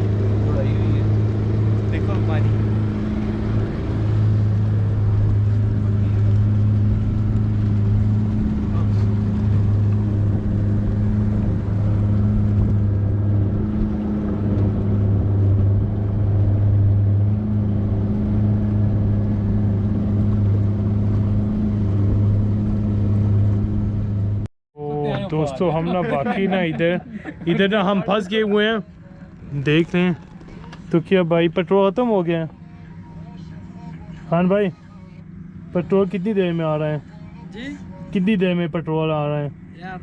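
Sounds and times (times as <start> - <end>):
motorboat engine running: 0.0 - 40.0.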